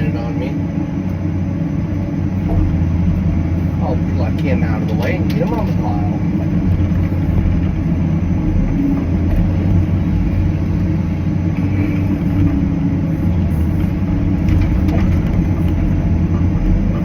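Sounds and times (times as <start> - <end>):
excavator diesel engine rumbling: 0.0 - 17.0
hydraulics working: 0.0 - 17.0.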